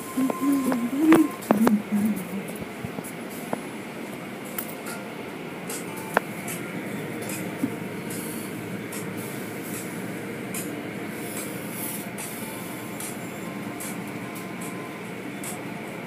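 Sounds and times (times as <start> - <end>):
car wash machinery and water: 0.0 - 16.0.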